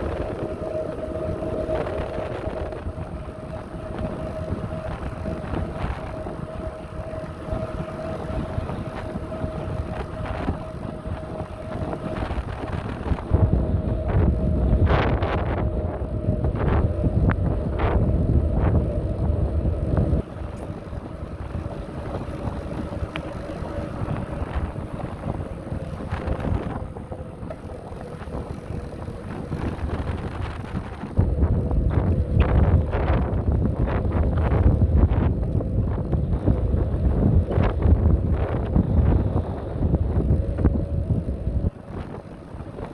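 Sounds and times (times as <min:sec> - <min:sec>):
bicycle clicks and rattles: 0:00.0 - 0:42.9
wind buffeting microphone: 0:00.0 - 0:42.9.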